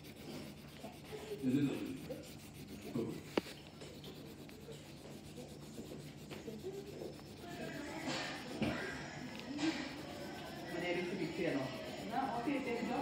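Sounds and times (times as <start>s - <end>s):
pencil scratching on paper: 0.0s - 13.0s.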